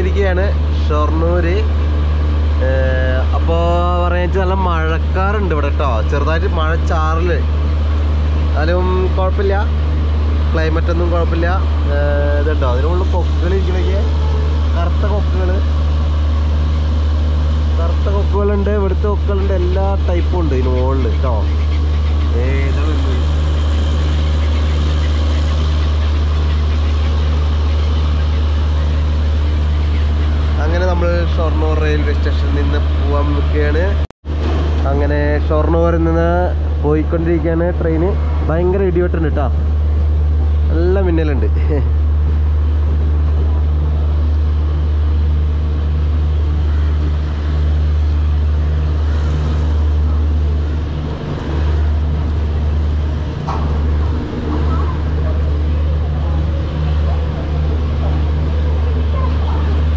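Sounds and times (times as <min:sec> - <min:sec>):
deep train machine hum: 0:00.0 - 0:59.9
low pulsing tone: 0:00.0 - 0:59.9.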